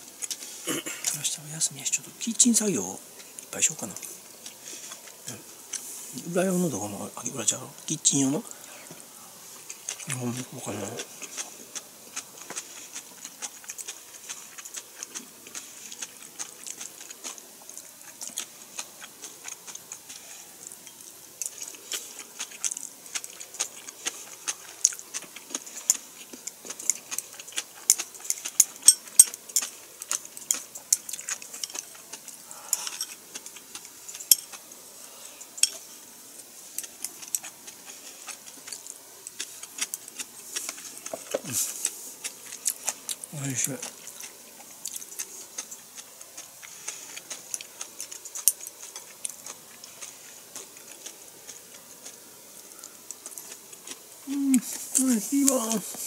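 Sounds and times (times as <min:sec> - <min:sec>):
chewing with mouth clicks: 0:03.2 - 0:05.9, 0:08.5 - 0:56.0.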